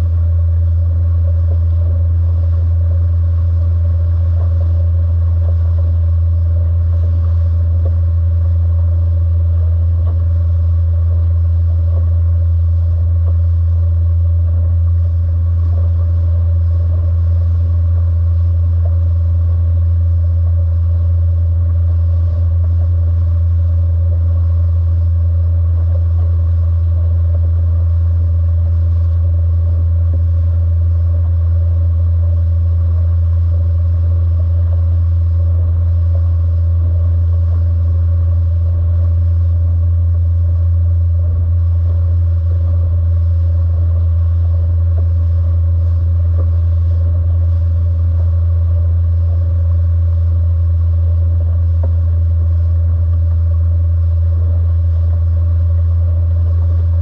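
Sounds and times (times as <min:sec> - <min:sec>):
motorboat engine drone: 0:00.0 - 0:57.0.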